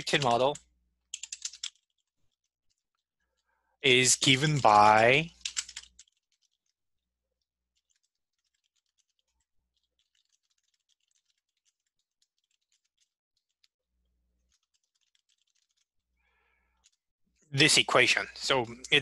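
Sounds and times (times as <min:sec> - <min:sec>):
faint keyboard typing: 0:00.0 - 0:17.0, 0:17.7 - 0:19.0.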